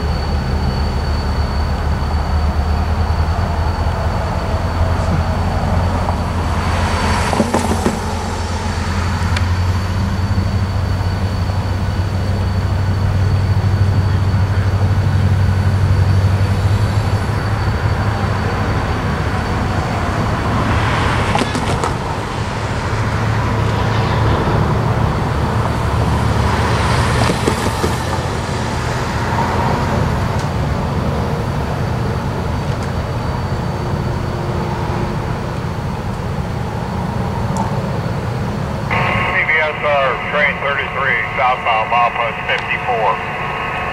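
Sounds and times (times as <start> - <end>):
diesel locomotive engine hum: 0.0 - 43.9.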